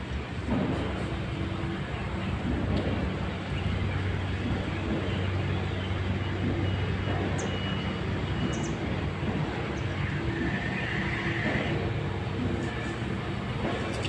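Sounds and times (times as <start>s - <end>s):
machine humming and rushing: 0.0s - 14.0s.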